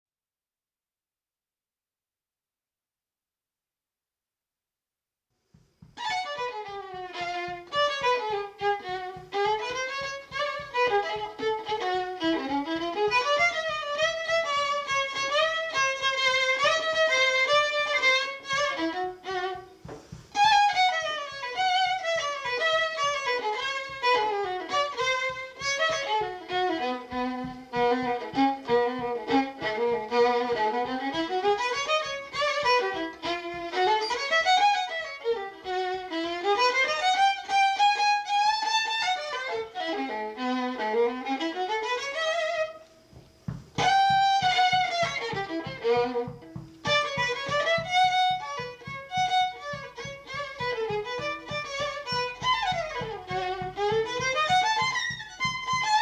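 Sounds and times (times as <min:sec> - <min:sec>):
violin melody with vibrato: 0:05.9 - 0:56.0.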